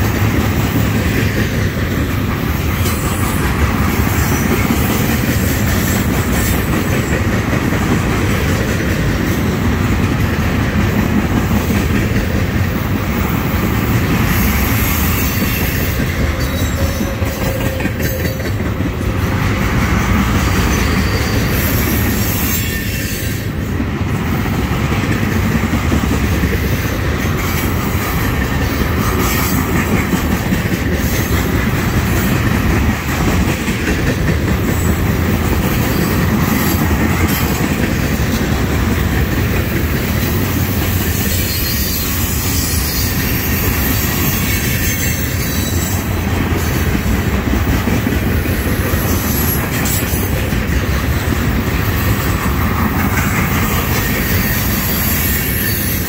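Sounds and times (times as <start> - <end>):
steel wheels rolling on rails: 0.0 - 56.0
wheels clicking over rail joints: 0.0 - 56.0.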